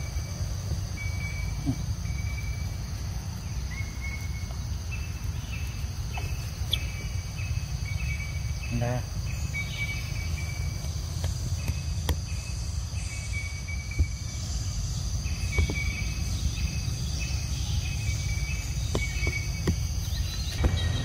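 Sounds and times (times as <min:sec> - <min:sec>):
insect chirps: 0:00.0 - 0:21.0.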